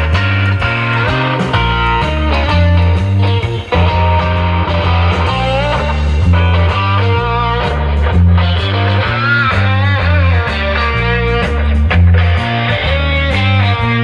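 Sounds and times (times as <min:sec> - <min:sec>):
bent electric guitar notes: 0:00.0 - 0:14.0
rock music through speakers: 0:00.0 - 0:14.0.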